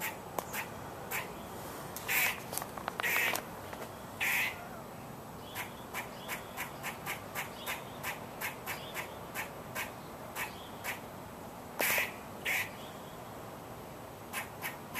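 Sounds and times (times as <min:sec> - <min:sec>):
squirrel calling: 0:00.0 - 0:11.1, 0:11.8 - 0:13.3, 0:14.3 - 0:14.9.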